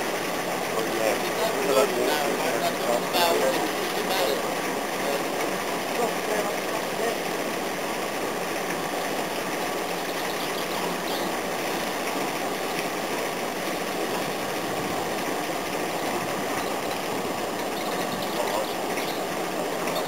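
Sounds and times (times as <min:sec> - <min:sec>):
crane engine running: 0:00.0 - 0:20.0.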